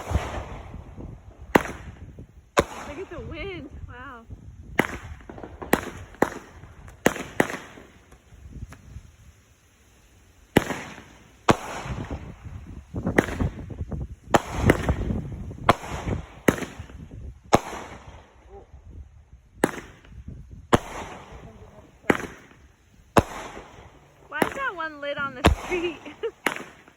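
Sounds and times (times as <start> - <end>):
fireworks bangs: 0.0 - 26.9.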